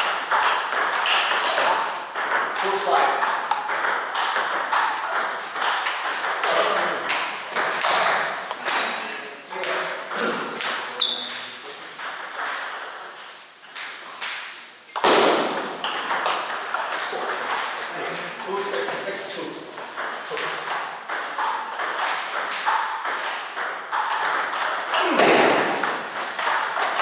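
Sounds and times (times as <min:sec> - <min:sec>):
table tennis balls clicking: 0:00.0 - 0:27.0.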